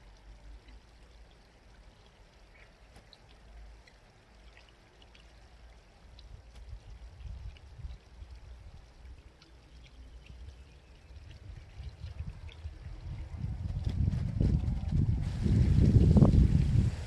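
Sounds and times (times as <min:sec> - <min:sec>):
low uneven rumble: 0:00.0 - 0:17.0
stream babbling and trickling: 0:00.0 - 0:17.0
high splashy ticks: 0:00.1 - 0:14.7.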